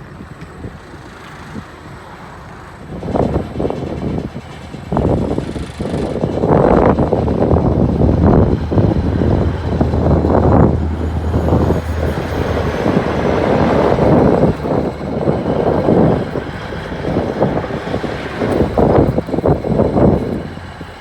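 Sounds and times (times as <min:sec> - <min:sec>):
loud diesel truck engine: 0:00.1 - 0:21.0.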